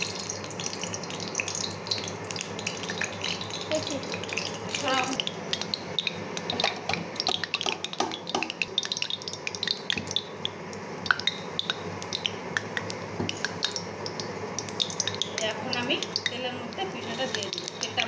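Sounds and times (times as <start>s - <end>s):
faint oil sizzle: 0.0s - 18.0s
hot oil crackling and popping: 0.0s - 18.0s.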